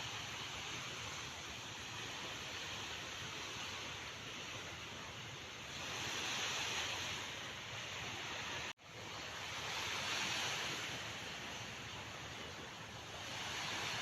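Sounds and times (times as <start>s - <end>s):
sea waves washing: 0.0s - 14.0s.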